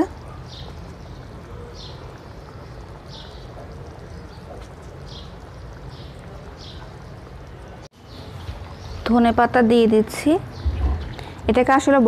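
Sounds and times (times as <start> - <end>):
curry simmering: 0.0 - 12.0.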